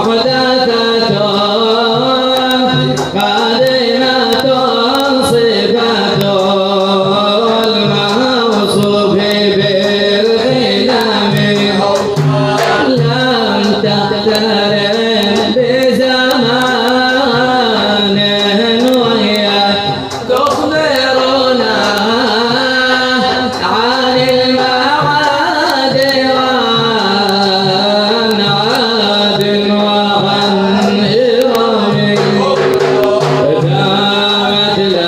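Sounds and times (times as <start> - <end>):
man singing ornamented melody: 0.0 - 35.0
repeating drum beat: 0.0 - 35.0.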